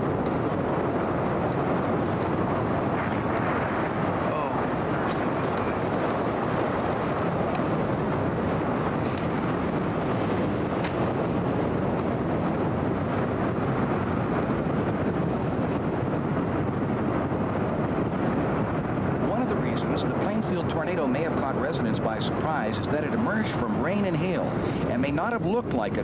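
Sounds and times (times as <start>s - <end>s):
tornado wind roaring: 0.0s - 26.0s.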